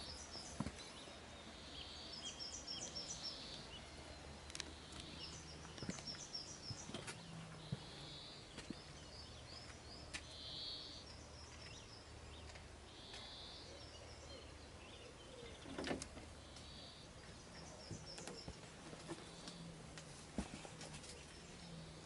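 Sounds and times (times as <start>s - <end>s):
distant birds calling: 0.0s - 22.0s.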